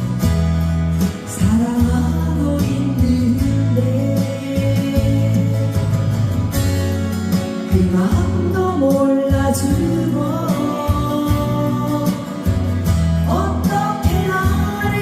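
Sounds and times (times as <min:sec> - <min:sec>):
bass line with a beat: 0:00.0 - 0:15.0
guitar: 0:00.0 - 0:15.0
person singing a pop ballad: 0:00.0 - 0:15.0.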